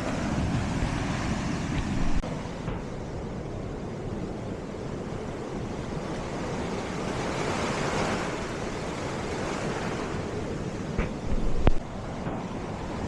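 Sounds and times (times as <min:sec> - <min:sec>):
ocean waves breaking: 0:00.0 - 0:13.0
wind rumbling on microphone: 0:00.0 - 0:13.0.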